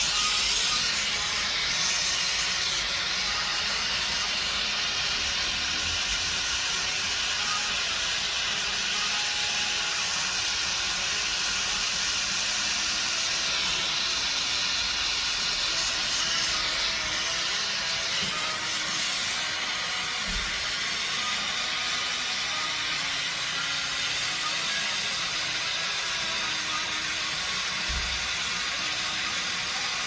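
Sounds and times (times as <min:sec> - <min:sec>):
brazing torch flame hissing: 0:00.0 - 0:30.0.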